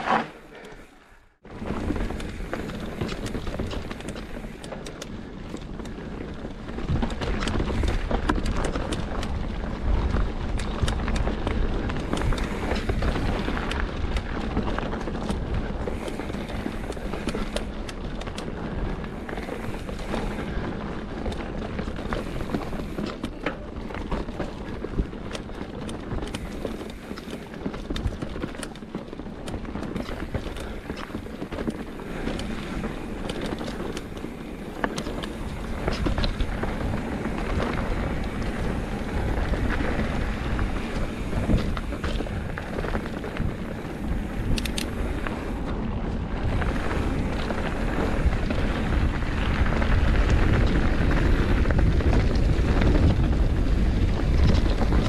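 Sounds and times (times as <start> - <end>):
wind rushing over microphone: 1.3 - 55.0
rattles and knocks over rough ground: 1.4 - 55.0.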